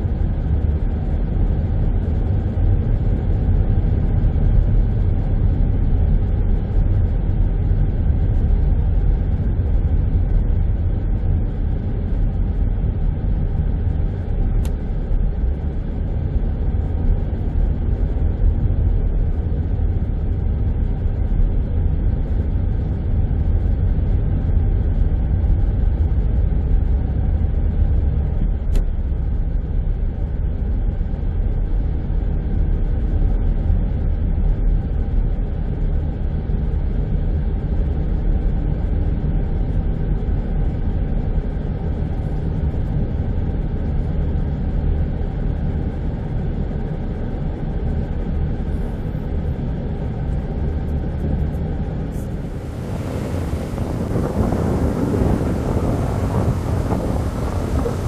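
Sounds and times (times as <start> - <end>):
moving car low rumble: 0.0 - 58.0.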